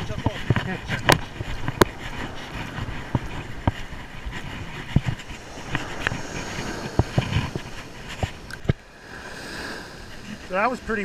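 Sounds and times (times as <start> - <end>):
surf: 0.0 - 11.0
wind on microphone: 0.0 - 11.0.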